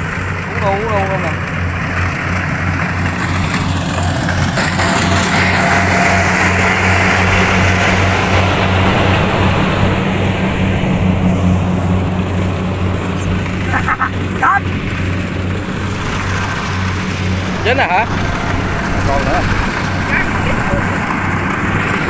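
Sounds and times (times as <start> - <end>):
combine harvester diesel engine: 0.0 - 22.0
rushing noise from machine: 0.0 - 22.0.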